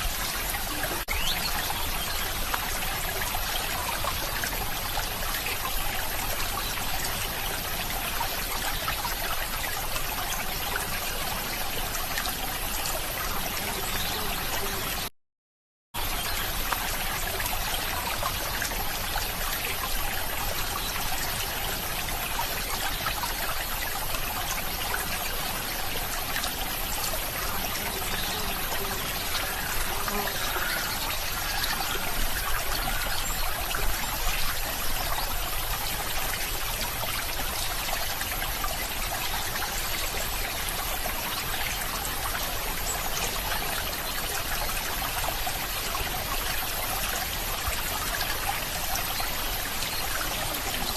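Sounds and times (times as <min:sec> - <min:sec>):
stream trickling over stones: 0:00.0 - 0:15.1, 0:16.0 - 0:50.9.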